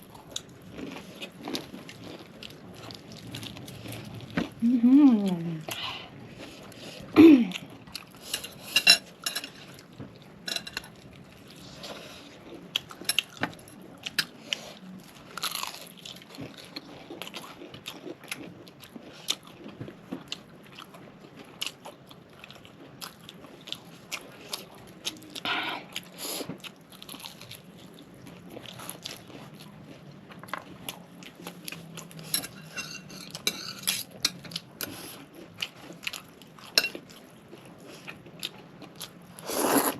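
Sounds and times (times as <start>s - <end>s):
soft chewing: 0.0s - 39.9s.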